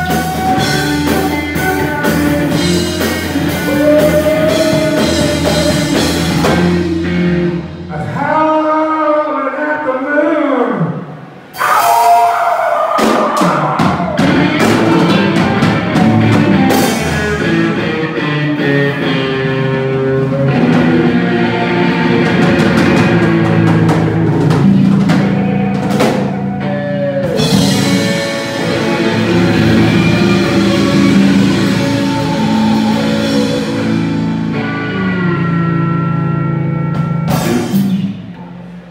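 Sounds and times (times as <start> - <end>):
live rock band playing: 0.0 - 8.2, 13.0 - 38.9.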